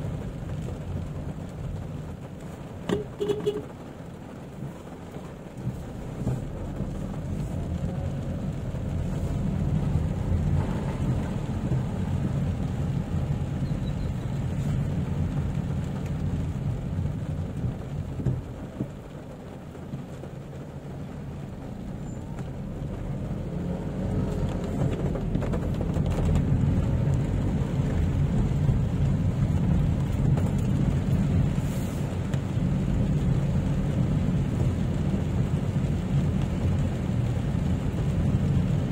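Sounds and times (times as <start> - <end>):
engine and tyres on wet road: 0.0 - 38.9
rain on car body: 0.0 - 38.9.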